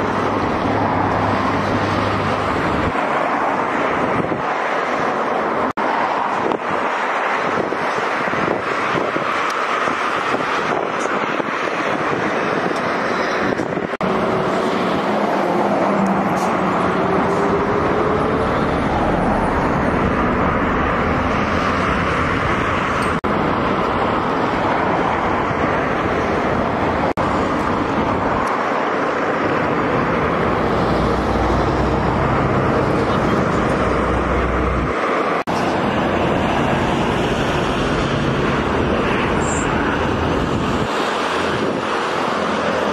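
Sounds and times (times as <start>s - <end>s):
tyre and road noise: 0.0s - 42.9s
wind noise: 0.0s - 42.9s.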